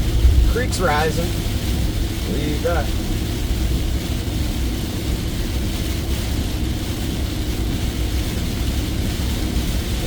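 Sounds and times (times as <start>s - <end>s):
engine and road rumble: 0.0s - 10.0s
heavy rain on a vehicle: 0.0s - 10.0s.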